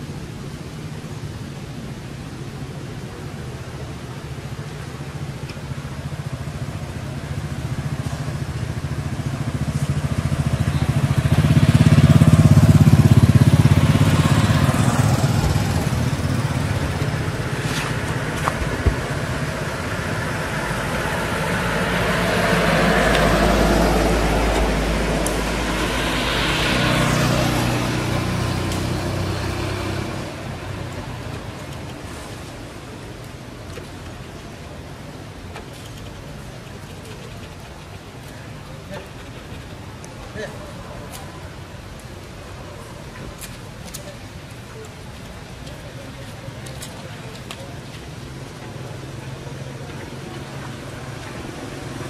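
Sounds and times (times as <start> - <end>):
passing vehicle engine hum: 2.7 - 52.0.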